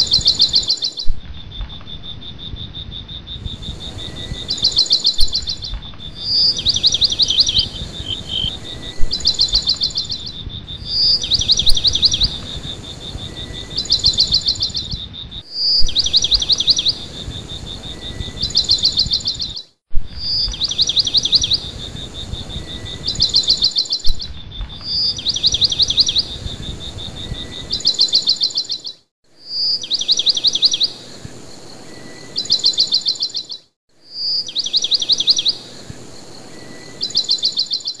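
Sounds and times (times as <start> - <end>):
insects chirping: 0.0 - 38.0
songbird singing: 0.0 - 38.0.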